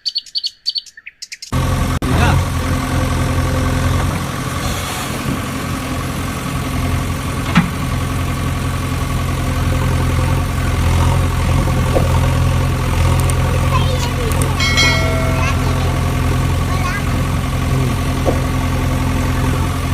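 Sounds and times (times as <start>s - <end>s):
engine idling: 1.5s - 19.9s.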